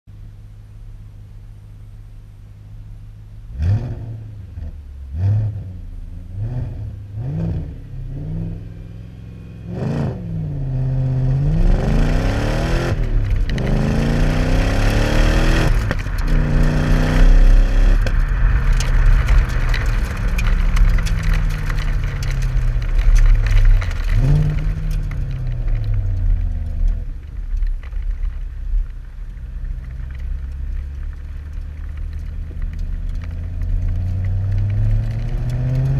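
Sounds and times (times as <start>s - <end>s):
car engine idling and revving: 0.1s - 35.9s.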